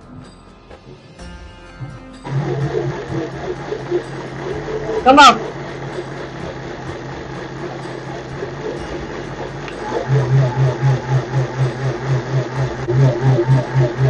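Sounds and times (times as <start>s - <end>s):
mixer grinder motor running: 2.2s - 14.0s.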